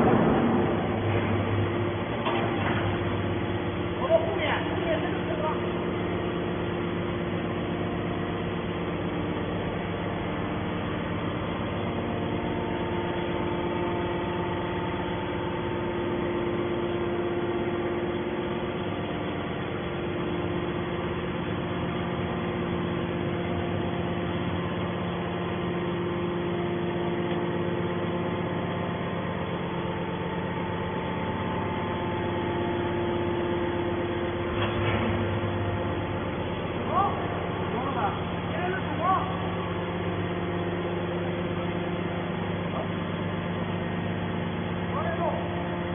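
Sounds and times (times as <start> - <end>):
hydraulic machine humming: 0.0 - 45.9.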